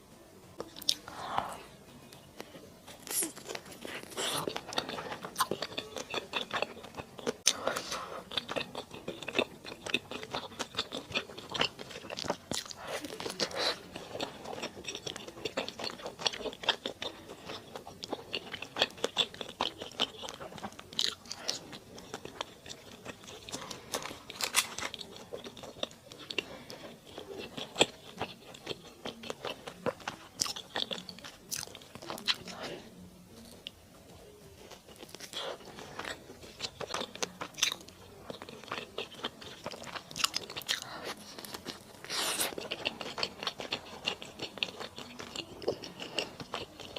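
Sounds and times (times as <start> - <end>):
person chewing crunchy food: 2.3 - 46.9.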